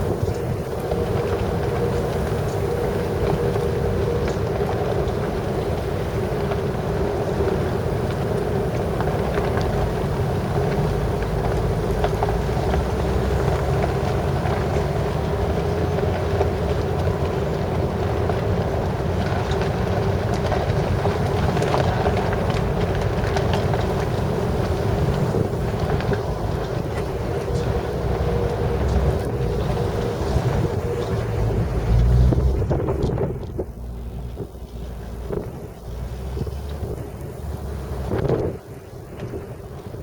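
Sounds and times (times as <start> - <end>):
constant hum: 0.0 - 40.0
wind buffeting microphone: 0.0 - 40.0.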